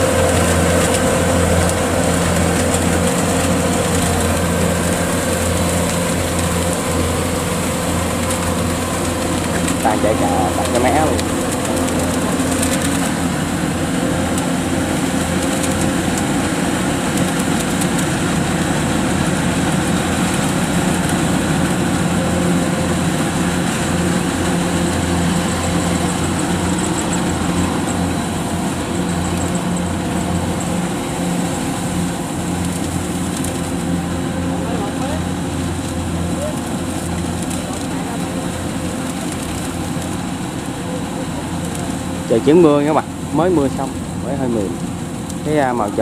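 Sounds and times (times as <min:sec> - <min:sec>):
combine harvester diesel engine: 0:00.0 - 0:46.0.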